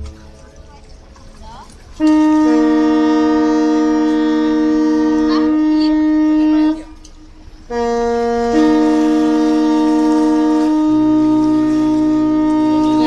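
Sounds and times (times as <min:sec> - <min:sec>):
ship horn blasts: 0:00.0 - 0:13.0.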